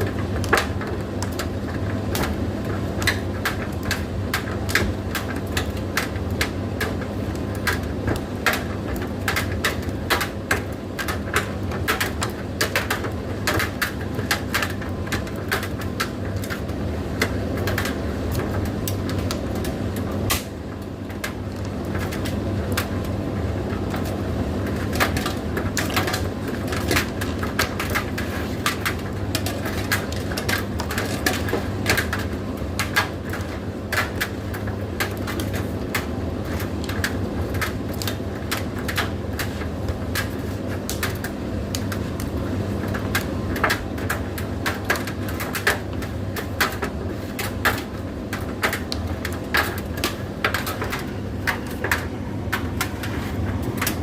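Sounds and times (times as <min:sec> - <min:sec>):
tumble dryer motor hum: 0:00.0 - 0:54.0.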